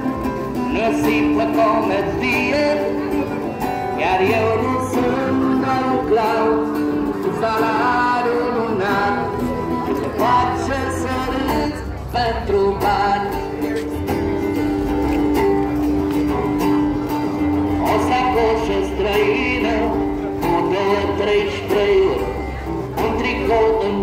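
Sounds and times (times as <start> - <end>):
amplified acoustic guitar: 0.0 - 24.0.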